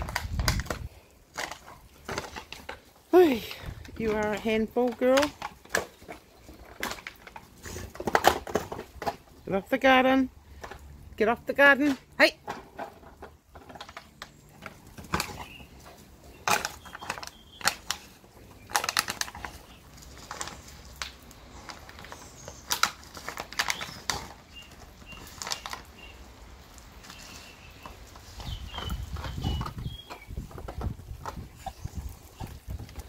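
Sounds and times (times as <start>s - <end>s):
dog chewing plastic bottle: 0.0s - 2.9s, 3.7s - 9.4s, 12.4s - 33.0s.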